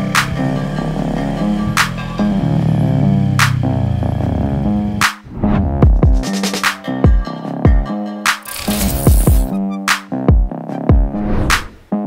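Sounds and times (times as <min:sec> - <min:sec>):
electronic music with deep bass: 0:00.0 - 0:11.1.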